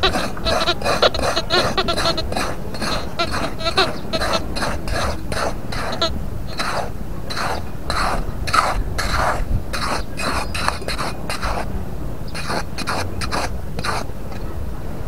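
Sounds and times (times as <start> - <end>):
metal trowel scraping sand: 0.0 - 11.7, 12.3 - 14.1.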